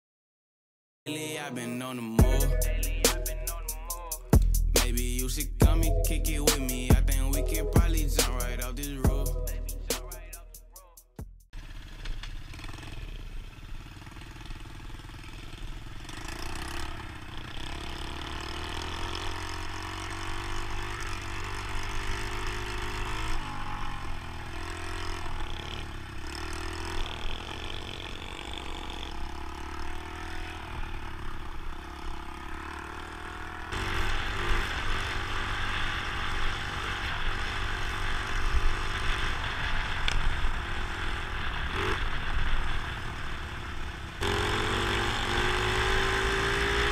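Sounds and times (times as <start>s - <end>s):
dirt bike engine revving: 2.2s - 11.0s, 11.6s - 46.9s.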